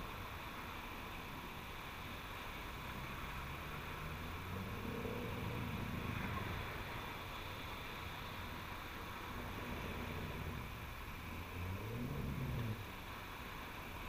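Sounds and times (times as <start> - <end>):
distant vehicle engine hum: 0.0 - 14.0
small waves: 0.0 - 14.0
wind: 0.0 - 14.0.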